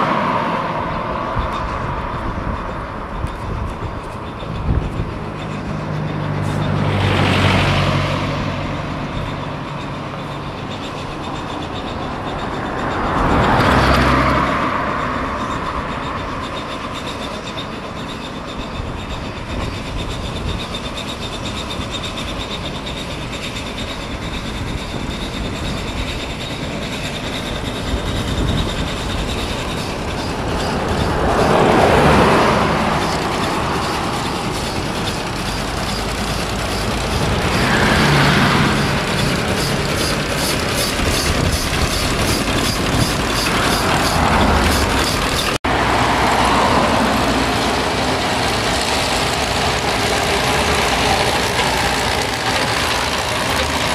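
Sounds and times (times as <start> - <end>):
steam wagon working uphill: 0.0 - 53.9
vehicles swishing by: 0.0 - 53.9.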